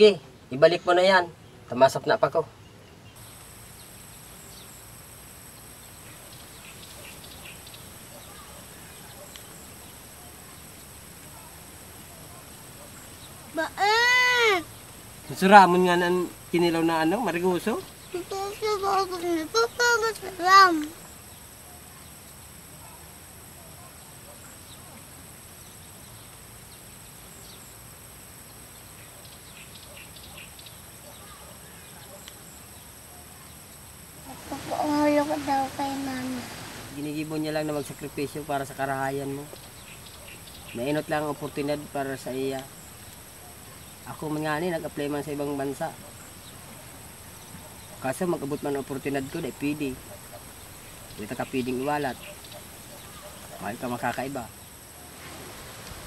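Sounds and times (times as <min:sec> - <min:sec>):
faint bird chirps: 0:00.0 - 0:55.2
high insect drone: 0:00.0 - 0:56.0.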